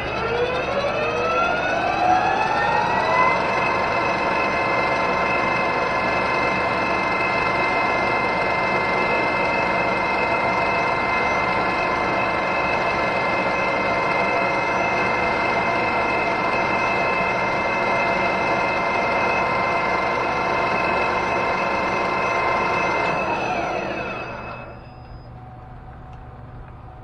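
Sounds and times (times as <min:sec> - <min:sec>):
lathe motor whine: 0:00.0 - 0:27.0.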